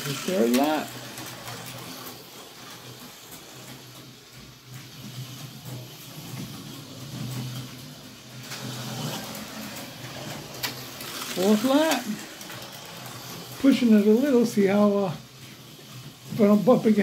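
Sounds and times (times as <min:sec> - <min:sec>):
slot car electric motor whirring: 0:00.0 - 0:17.0.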